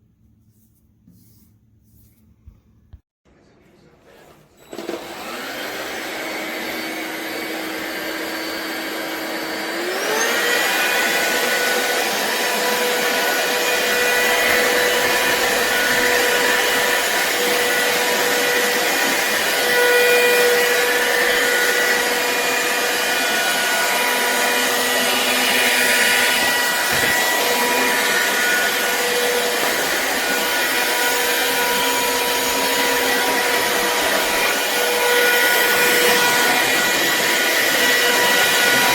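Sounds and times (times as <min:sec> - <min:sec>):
stick vacuum motor whine: 0:04.6 - 0:38.9.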